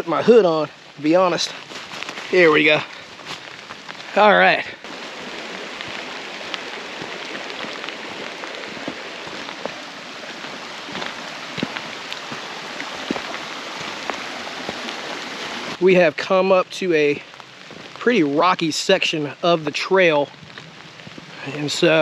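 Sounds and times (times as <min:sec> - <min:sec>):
rain hissing in forest: 0:00.0 - 0:22.0.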